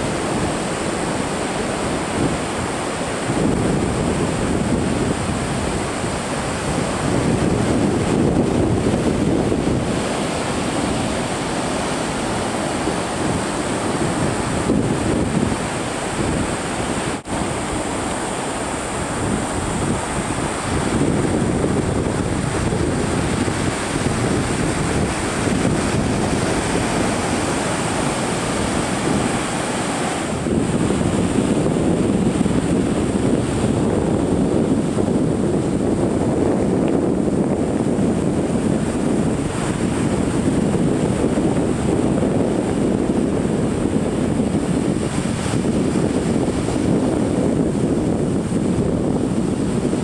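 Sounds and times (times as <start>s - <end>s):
ocean surf on sandy beach: 0.0s - 50.0s
wind buffeting microphone: 0.0s - 50.0s.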